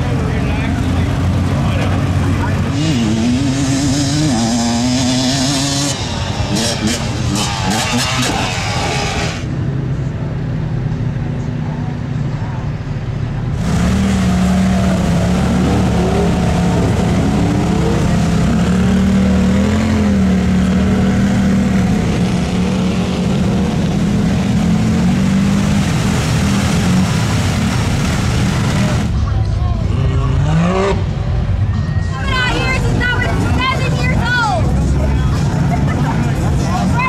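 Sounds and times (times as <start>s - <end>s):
off-road vehicle engines revving: 0.0s - 37.0s.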